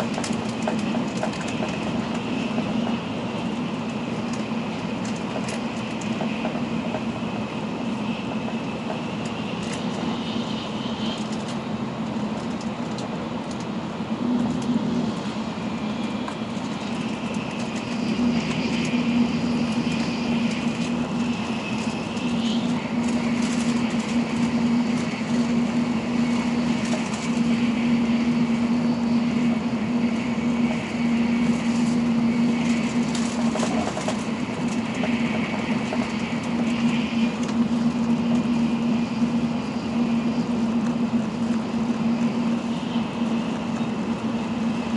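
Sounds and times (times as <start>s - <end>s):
faint high whine: 0.0s - 12.5s, 14.1s - 44.9s
steady low hum: 0.0s - 44.9s
train rushing rumble: 0.0s - 44.9s.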